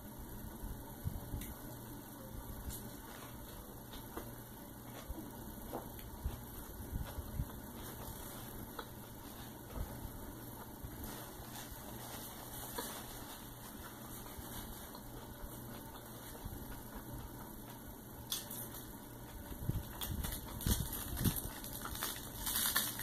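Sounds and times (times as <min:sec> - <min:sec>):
steady low hum: 0:00.0 - 0:23.0
person chewing food: 0:02.7 - 0:23.0.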